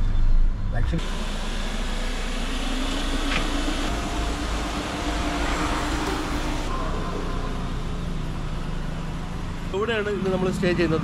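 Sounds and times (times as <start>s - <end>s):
car engine running: 1.0s - 11.0s.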